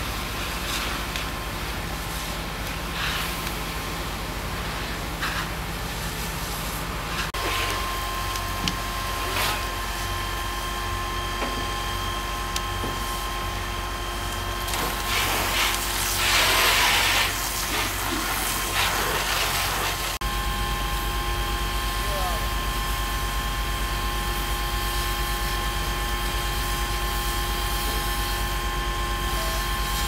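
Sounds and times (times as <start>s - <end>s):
fire engine humming: 0.0s - 30.0s
fire hose hissing spray and steam: 0.0s - 30.0s.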